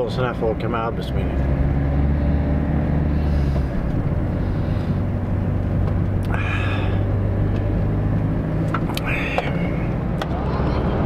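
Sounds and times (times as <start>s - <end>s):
engine and road drone: 0.0s - 11.0s.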